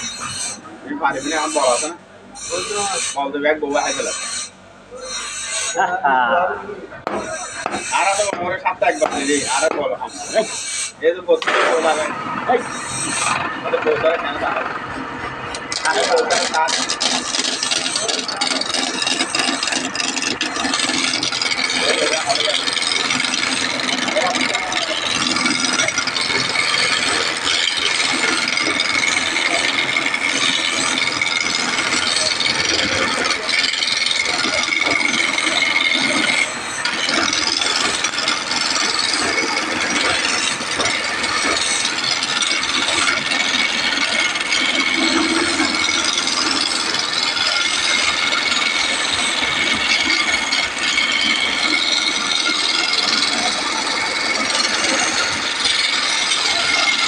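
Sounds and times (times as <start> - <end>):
tool rasping wood: 0.0 - 5.8, 7.0 - 57.0.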